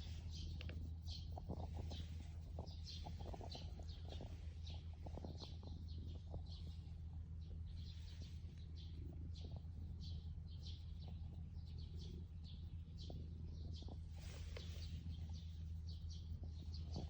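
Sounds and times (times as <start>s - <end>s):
small bird chirping: 0.0s - 17.0s
steady low hum: 0.0s - 17.0s.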